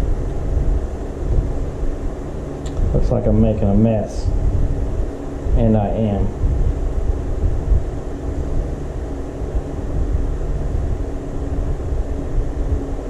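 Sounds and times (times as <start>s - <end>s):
faint hum: 0.0s - 13.0s
fan droning: 0.0s - 13.0s.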